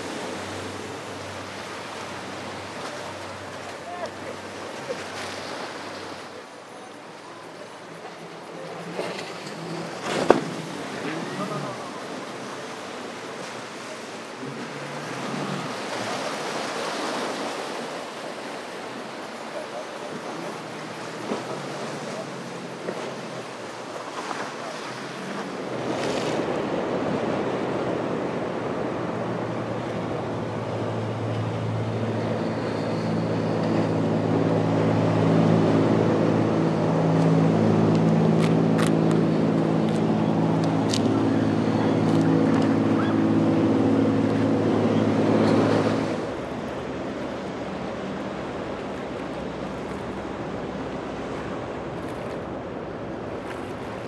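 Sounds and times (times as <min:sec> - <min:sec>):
outboard motor drone: 0:00.0 - 0:54.0
rushing water and spray: 0:00.0 - 0:54.0
surf: 0:00.0 - 0:54.0
wind: 0:00.0 - 0:54.0.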